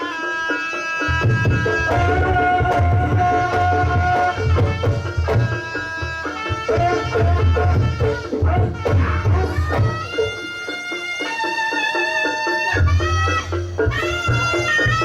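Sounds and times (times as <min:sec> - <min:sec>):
hand drum beat: 0:00.0 - 0:15.0
held pitched notes: 0:01.2 - 0:15.0.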